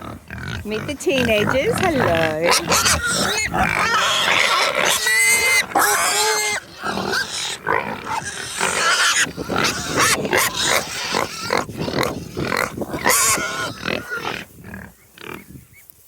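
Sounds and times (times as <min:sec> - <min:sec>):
pigs grunting and squealing: 0:00.0 - 0:15.6.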